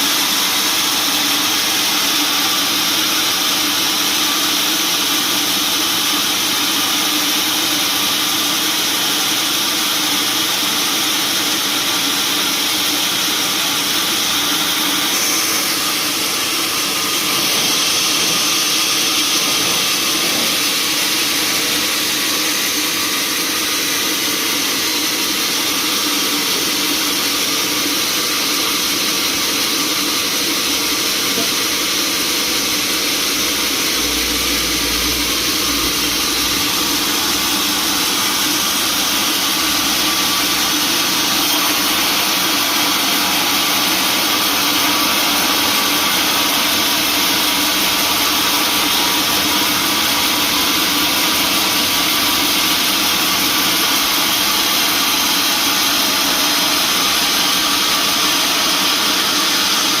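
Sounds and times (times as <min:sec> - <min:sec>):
sawmill machinery running: 0:00.0 - 1:00.0.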